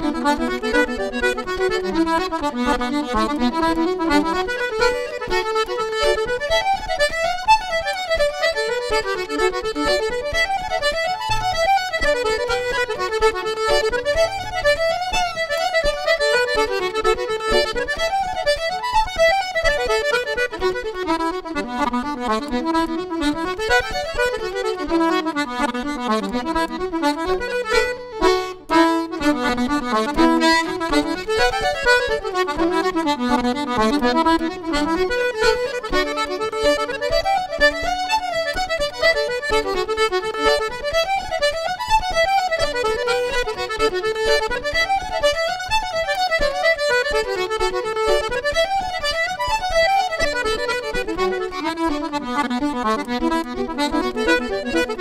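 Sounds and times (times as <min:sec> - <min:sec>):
accordion melody: 0:00.0 - 0:55.0
fiddle melody: 0:00.0 - 0:55.0
stringed accompaniment: 0:00.0 - 0:55.0.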